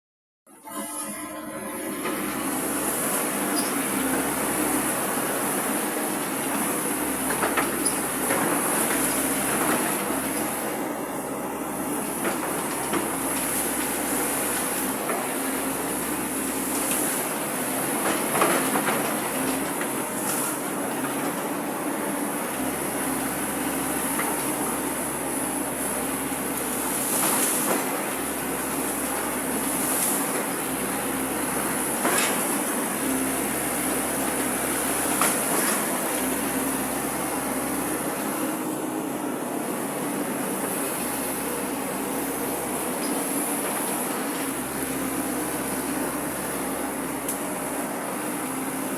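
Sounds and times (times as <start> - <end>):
excavator diesel engine humming: 0.6 - 48.9.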